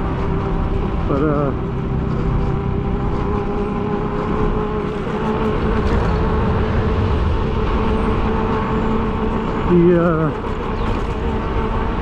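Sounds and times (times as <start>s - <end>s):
electric motor whine: 0.0s - 12.0s
road noise: 0.0s - 12.0s
wind rumble on microphone: 0.0s - 12.0s.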